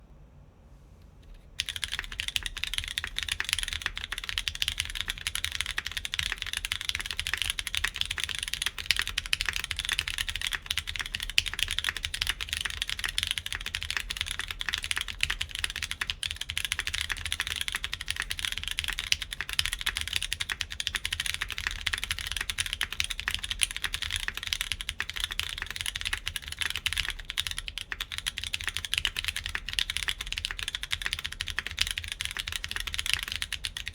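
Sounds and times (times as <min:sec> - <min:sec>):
fast mechanical keyboard typing: 0:01.6 - 0:33.9.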